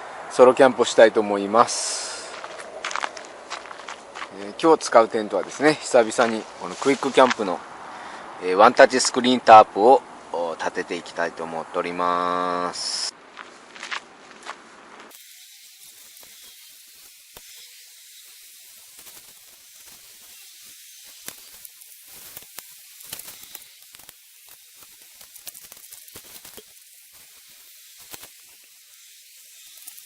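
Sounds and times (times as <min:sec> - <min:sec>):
faint high-pitched hiss: 0:04.3 - 0:13.2, 0:14.6 - 0:30.0.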